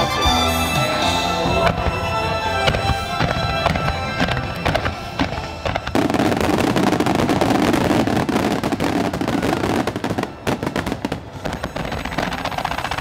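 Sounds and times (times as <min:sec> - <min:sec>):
fireworks booms and crackling: 0:01.6 - 0:13.0.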